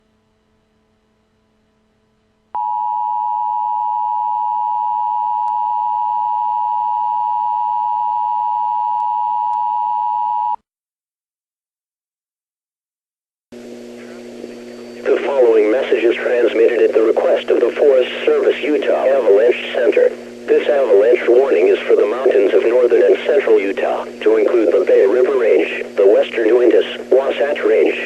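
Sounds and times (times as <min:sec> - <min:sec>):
faint hum: 0:00.0 - 0:10.6, 0:13.6 - 0:28.0.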